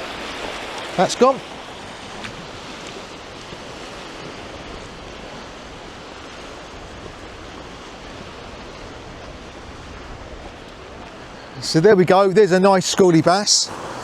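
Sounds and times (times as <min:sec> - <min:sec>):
wind on microphone: 0:00.0 - 0:11.6
sea surf washing onto beach: 0:00.0 - 0:14.0.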